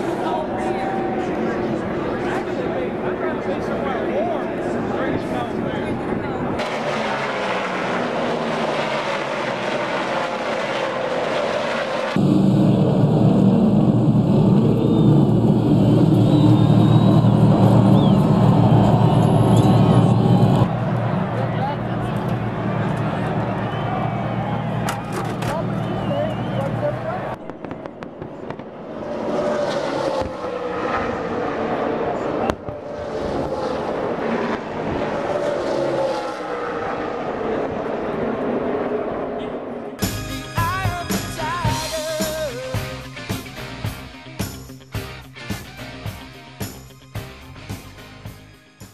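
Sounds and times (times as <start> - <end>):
race truck engines droning: 0.0 - 48.8.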